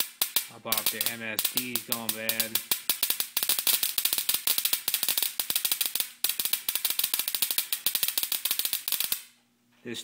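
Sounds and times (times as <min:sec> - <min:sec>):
ignition spark snapping: 0:00.0 - 0:09.4.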